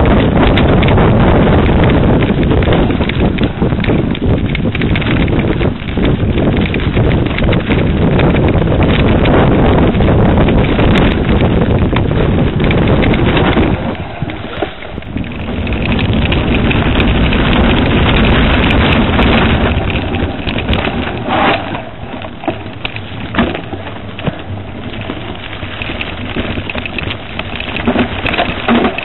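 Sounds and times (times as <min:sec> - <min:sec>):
low rumble of bike tyres: 0:00.0 - 0:29.0
wind buffeting microphone: 0:00.0 - 0:29.0.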